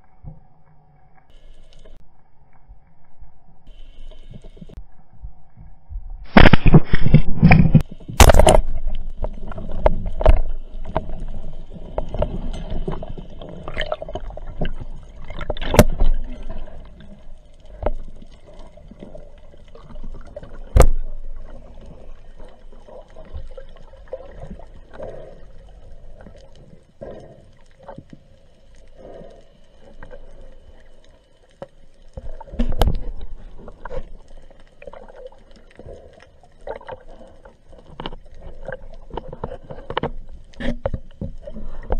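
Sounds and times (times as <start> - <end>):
underwater sloshing and bubbling: 0.0 - 41.9.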